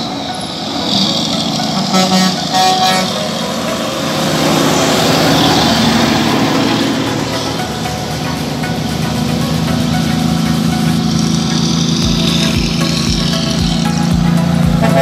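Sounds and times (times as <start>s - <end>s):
air horn blasts: 0.0s - 15.0s
truck passing by: 0.0s - 15.0s.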